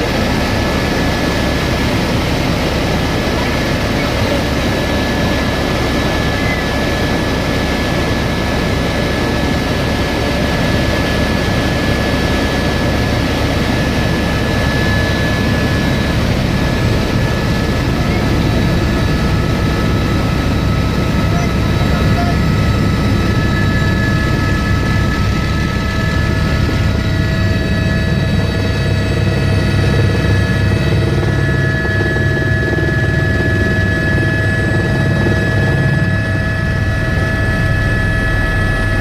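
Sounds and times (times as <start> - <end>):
helicopter rotor and engine: 0.0 - 39.0.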